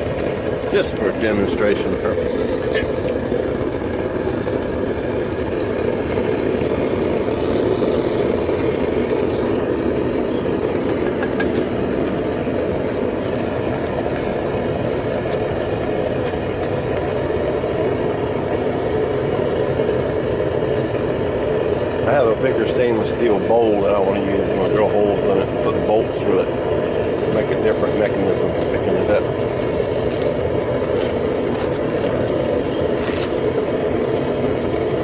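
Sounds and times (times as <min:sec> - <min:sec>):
propane burner roaring: 0:00.0 - 0:35.0.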